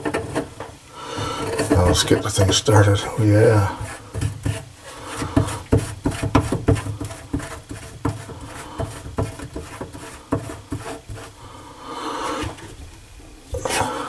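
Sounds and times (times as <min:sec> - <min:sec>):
light scraping: 0:00.0 - 0:11.4, 0:13.5 - 0:14.0.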